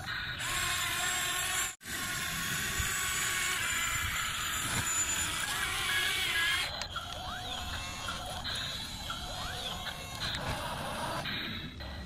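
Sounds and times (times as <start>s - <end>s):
toy electric motors whirring: 0.0s - 12.0s.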